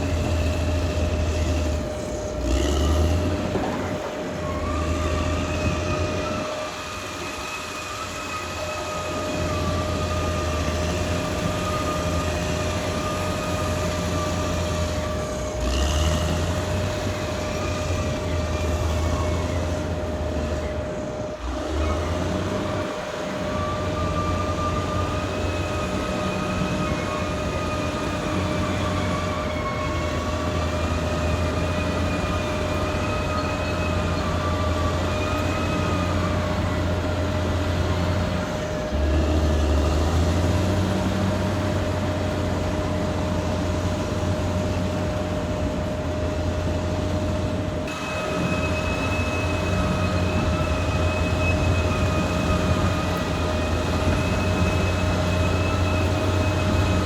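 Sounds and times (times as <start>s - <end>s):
bulldozer diesel engine droning: 0.0s - 57.0s
constant high whine: 0.0s - 57.0s
wavering higher whine: 0.0s - 57.0s.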